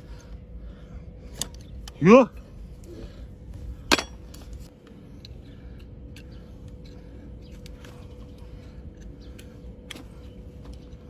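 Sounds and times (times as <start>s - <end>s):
faint steady whine: 0.0s - 11.0s
steady low hum: 0.0s - 11.0s.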